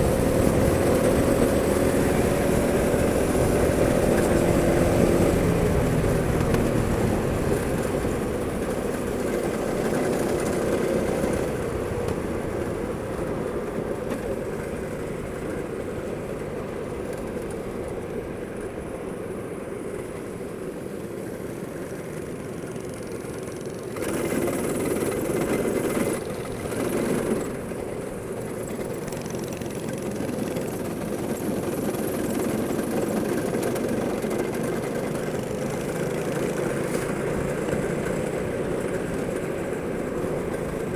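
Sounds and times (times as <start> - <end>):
go-kart engines running: 0.0 - 40.9.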